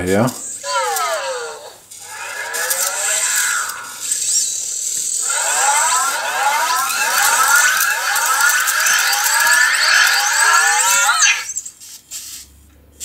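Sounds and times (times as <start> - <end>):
toy robot electronic tone: 0.4 - 11.8
rising electronic chirps: 0.7 - 11.7.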